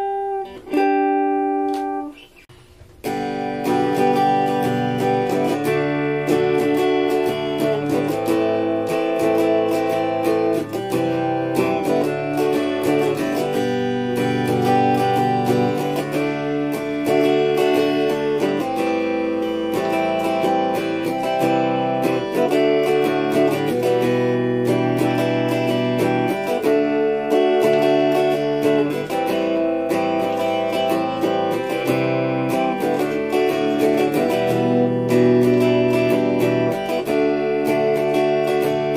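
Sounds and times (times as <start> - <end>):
electric guitar strumming chords: 0.0 - 38.9.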